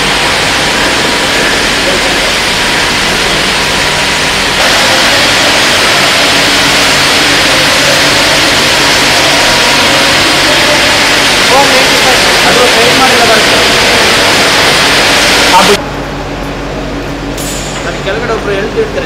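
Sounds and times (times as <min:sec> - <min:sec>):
low hum: 0:00.0 - 0:18.1
factory hall hiss: 0:00.0 - 0:19.0.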